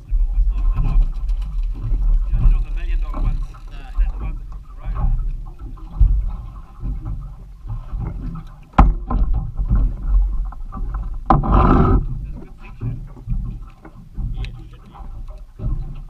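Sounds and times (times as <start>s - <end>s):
water slapping against boat hull: 0.0s - 16.0s
wind rumbling on microphone: 0.0s - 16.0s.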